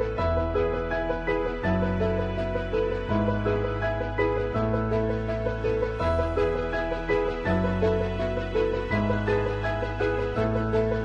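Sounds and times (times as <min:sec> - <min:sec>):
gentle melody with bass notes: 0:00.0 - 0:11.0.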